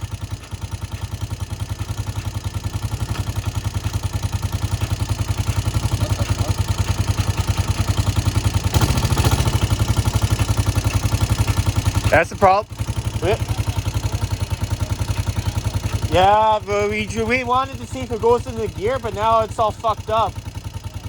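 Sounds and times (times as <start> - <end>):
atv engine idling: 0.0 - 21.0.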